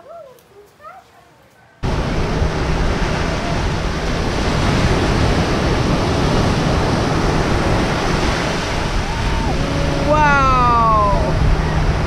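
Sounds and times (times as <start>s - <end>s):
waves breaking on sand: 1.8s - 12.0s
wind buffeting microphone: 1.8s - 12.0s.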